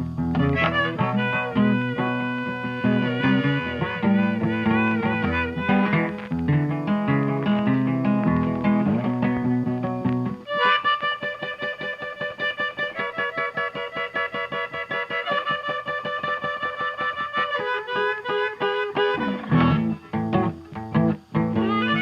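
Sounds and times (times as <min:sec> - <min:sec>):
fast pulse of repeated notes: 0:00.0 - 0:22.0.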